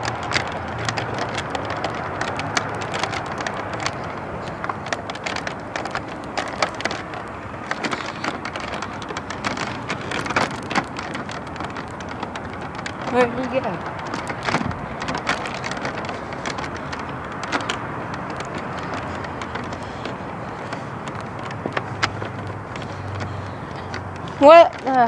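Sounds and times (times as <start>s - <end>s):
footsteps on asphalt: 0.0s - 25.0s
phone microphone handling rustle: 0.0s - 25.0s.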